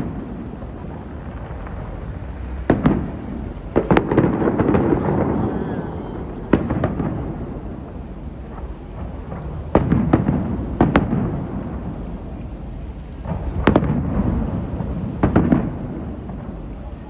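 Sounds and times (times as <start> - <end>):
fireworks bangs with rumbling echo: 0.0 - 17.0.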